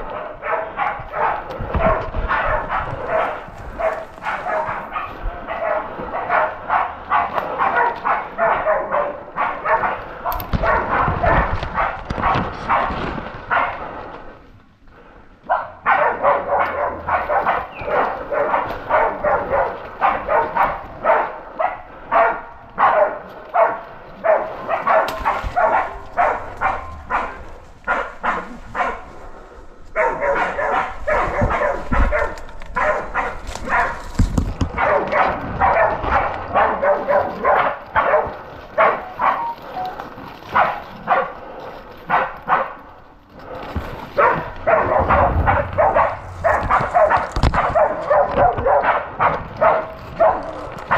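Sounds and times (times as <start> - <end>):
dogs barking rapidly: 0.0 - 14.0, 15.4 - 50.9.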